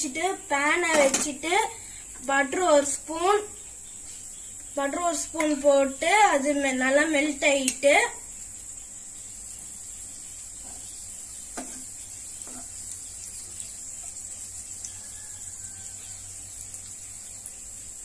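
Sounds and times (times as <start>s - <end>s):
butter sizzling in a pan: 0.0s - 18.0s.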